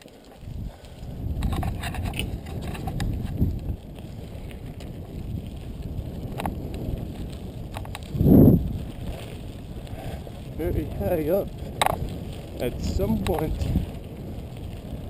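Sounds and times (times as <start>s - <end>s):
bike and stones rattling: 0.0s - 15.0s
tyres on gravel: 0.0s - 15.0s
wind on microphone: 0.0s - 15.0s.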